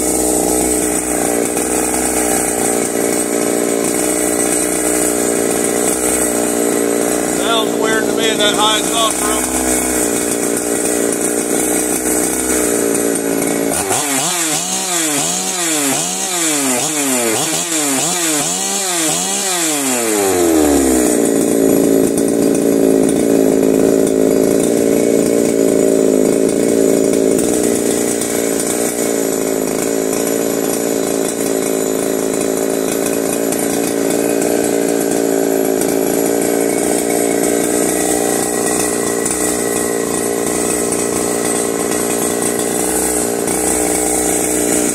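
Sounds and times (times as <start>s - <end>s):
chainsaw running: 0.0s - 44.9s.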